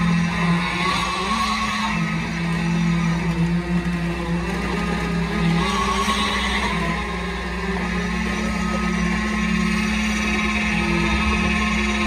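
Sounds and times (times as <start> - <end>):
concrete vibrator: 0.0 - 12.0
pump truck engine droning: 0.0 - 12.0.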